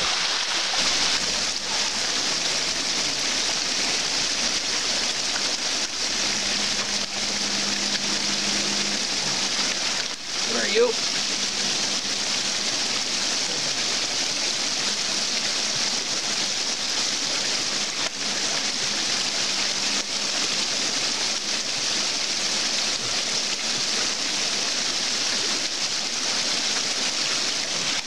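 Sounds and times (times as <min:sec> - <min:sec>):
stream splashing down a cascade: 0:00.0 - 0:28.0.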